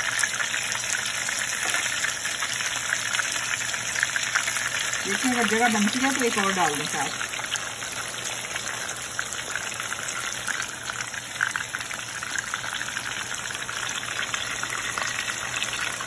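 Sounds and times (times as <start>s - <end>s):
kebabs sizzling in hot oil: 0.0s - 16.0s.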